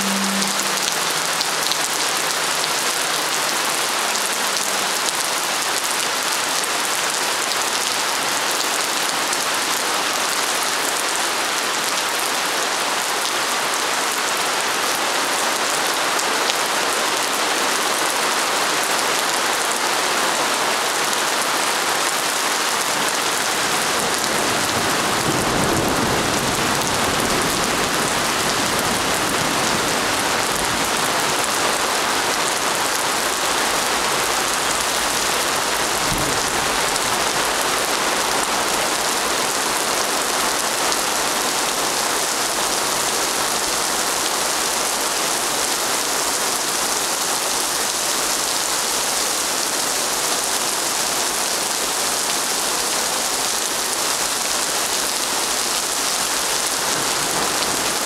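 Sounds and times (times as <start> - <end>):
heavy rain on paving: 0.0 - 58.0.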